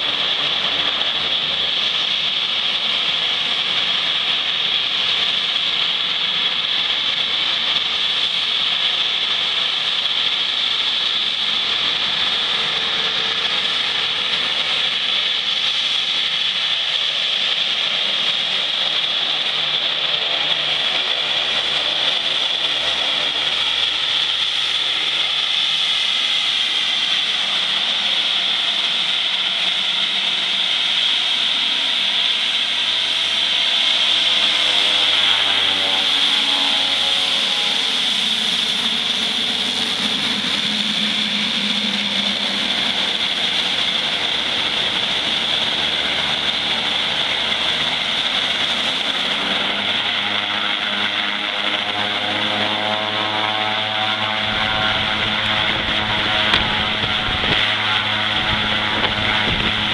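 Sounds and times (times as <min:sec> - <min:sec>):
propeller drone: 0:00.0 - 0:59.9
turboprop turbine whine: 0:00.0 - 0:59.9.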